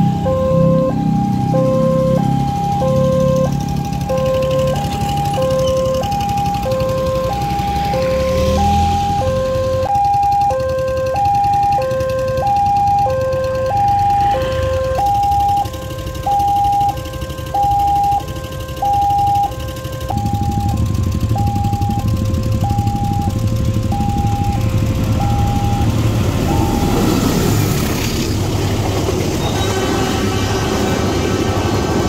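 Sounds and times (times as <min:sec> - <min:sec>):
level crossing two-tone alarm: 0:00.0 - 0:27.7.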